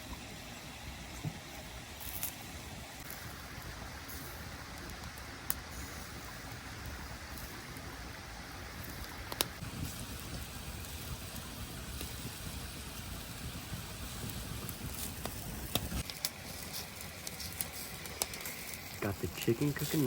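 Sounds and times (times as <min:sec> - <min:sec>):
campfire pops: 0:00.0 - 0:20.0
water dripping hiss: 0:00.0 - 0:20.0.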